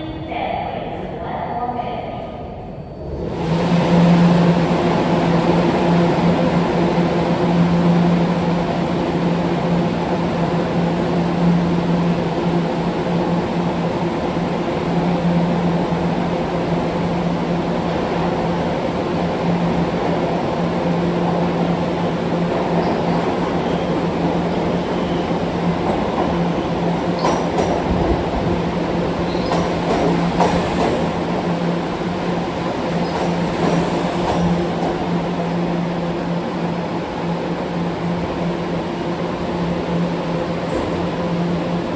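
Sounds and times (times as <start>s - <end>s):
subway train hum: 0.0s - 41.9s.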